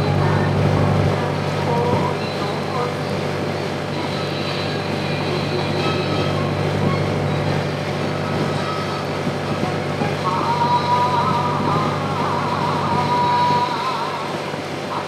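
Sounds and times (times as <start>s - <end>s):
boat engine drone: 0.0s - 15.0s
broad rushing noise: 0.0s - 15.0s.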